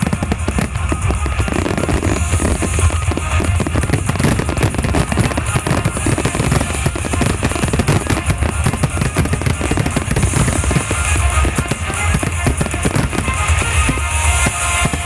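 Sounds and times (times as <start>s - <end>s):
firework bursts: 0.0s - 15.0s
music playing: 0.0s - 15.0s.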